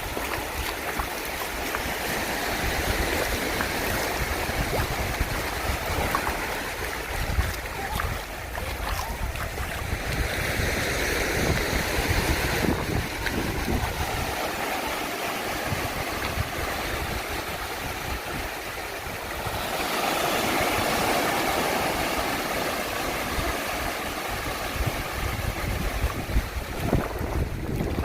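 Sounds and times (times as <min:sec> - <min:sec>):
surf washing: 0:00.0 - 0:28.0
wind buffeting microphone: 0:00.0 - 0:28.0.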